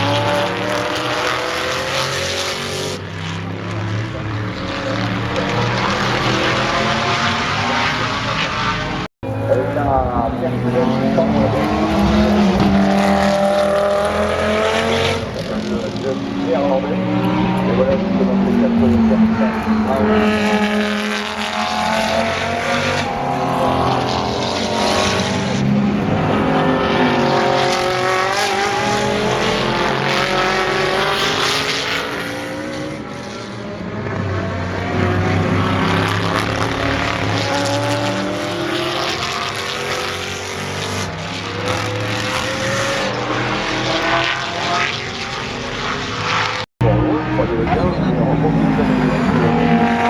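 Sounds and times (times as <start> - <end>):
race car engines at speed: 0.0 - 50.0.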